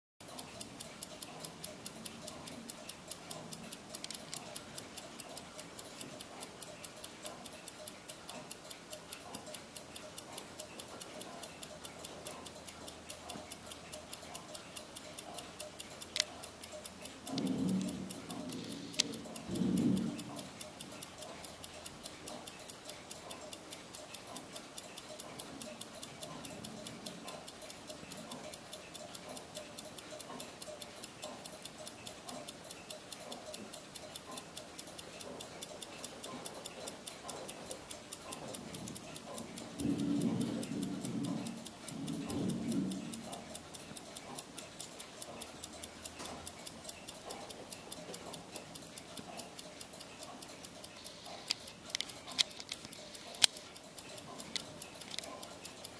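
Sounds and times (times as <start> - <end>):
desk clock ticking: 0.2 - 55.9.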